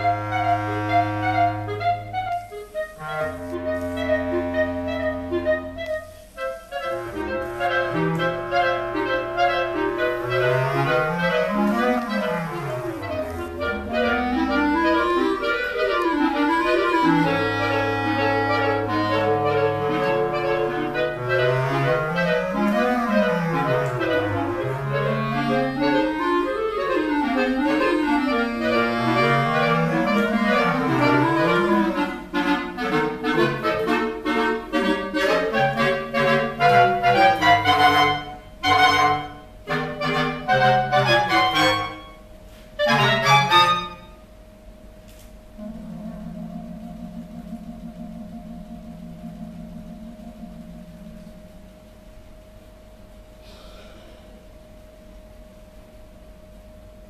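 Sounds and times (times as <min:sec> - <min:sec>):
bass clarinet low runs: 0:00.0 - 0:44.3, 0:45.5 - 0:52.2
clarinets holding chords: 0:00.0 - 0:44.6, 0:45.4 - 0:57.0.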